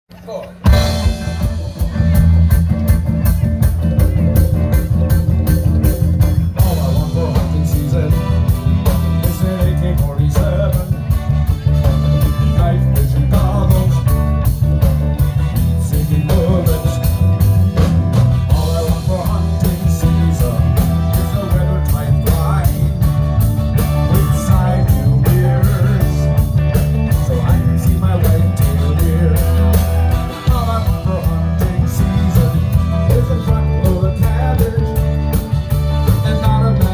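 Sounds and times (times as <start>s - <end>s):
live reggae band playing: 0.1s - 36.9s
heavy bass line: 0.6s - 36.9s
steady drum beat: 0.6s - 36.9s.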